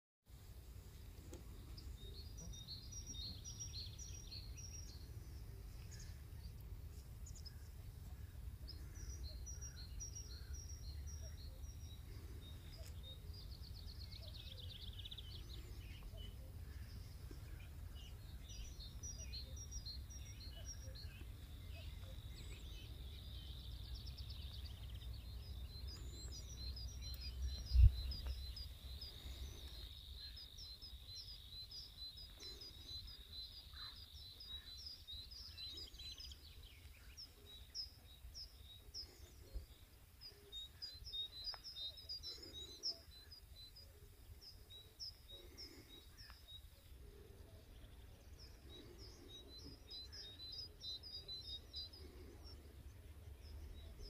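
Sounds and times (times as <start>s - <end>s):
birds chirping: 0.8s - 54.0s.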